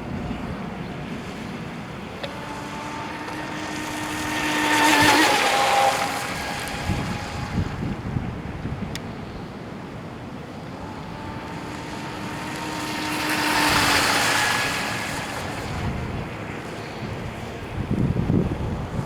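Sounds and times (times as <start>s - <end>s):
rc boat motor passing: 0.0s - 19.0s
wind buffeting microphone: 0.0s - 19.0s.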